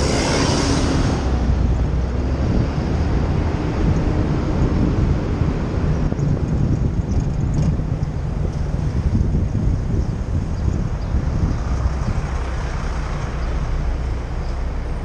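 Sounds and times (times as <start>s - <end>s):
passing traffic: 0.0s - 15.0s
wind rumble on microphone: 0.0s - 15.0s.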